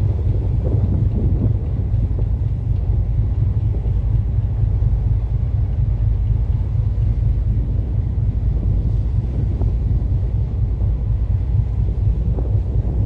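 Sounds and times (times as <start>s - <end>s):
ship engine rumble: 0.0s - 13.0s
wind rumbling on microphone: 0.0s - 13.0s.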